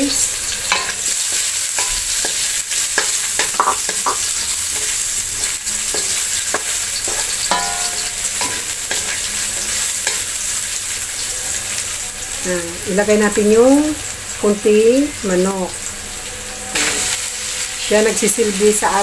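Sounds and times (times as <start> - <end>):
garlic and onion sizzling in oil: 0.0 - 19.0.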